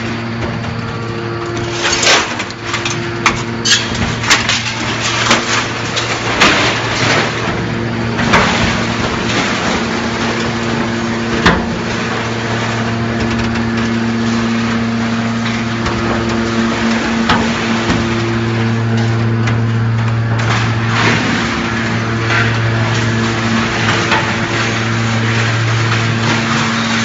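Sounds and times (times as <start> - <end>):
hydraulic baler humming: 0.0 - 27.0
scrap metal cracking and crunching: 0.0 - 27.0.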